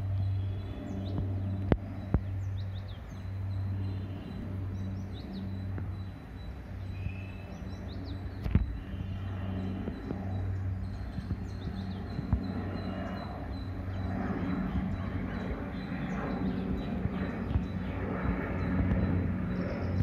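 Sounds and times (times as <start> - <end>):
aircraft droning overhead: 0.0 - 20.0
birds chirping: 0.0 - 20.0.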